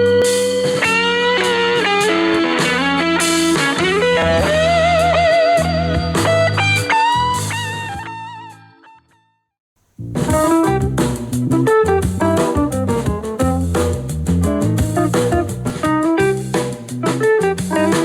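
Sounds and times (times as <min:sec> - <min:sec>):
steady bass line: 0:00.0 - 0:07.8, 0:10.0 - 0:18.0
electric guitar bent notes: 0:00.0 - 0:08.7, 0:10.0 - 0:18.0.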